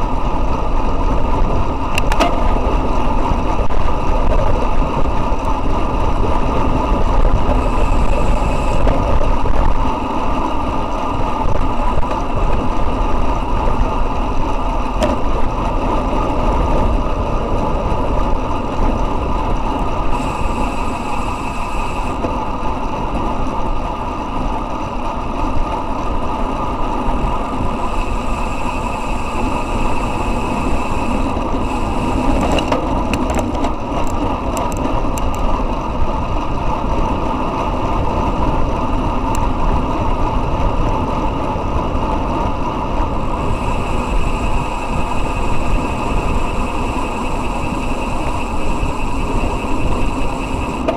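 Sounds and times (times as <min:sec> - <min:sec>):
tyres humming on asphalt: 0:00.0 - 0:50.9
wind rushing over microphone: 0:00.0 - 0:50.9
bicycle freewheel ticking: 0:02.7 - 0:50.9.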